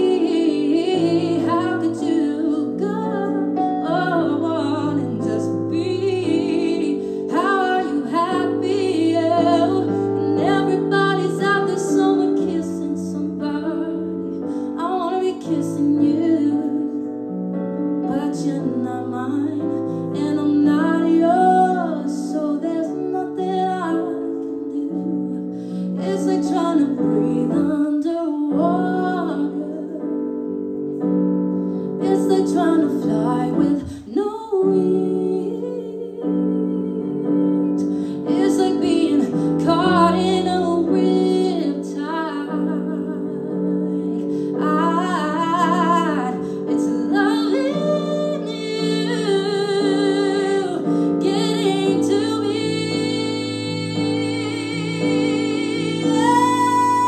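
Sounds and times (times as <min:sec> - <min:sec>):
person singing a slow ballad: 0:00.0 - 0:57.0
sustained piano chords: 0:00.0 - 0:57.0.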